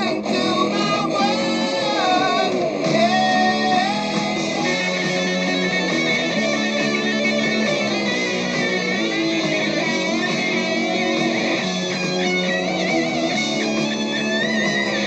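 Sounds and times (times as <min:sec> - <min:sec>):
bass guitar: 0:00.0 - 0:15.0
electric guitar lead line: 0:00.0 - 0:15.0
rhythm guitar: 0:00.0 - 0:15.0.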